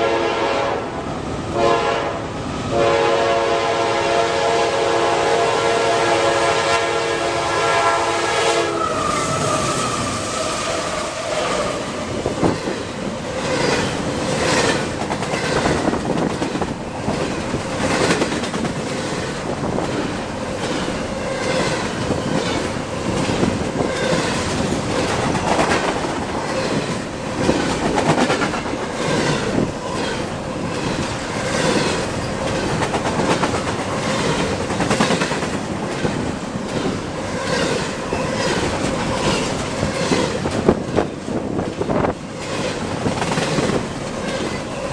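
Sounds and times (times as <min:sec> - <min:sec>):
freight train rumble: 0:00.0 - 0:44.9.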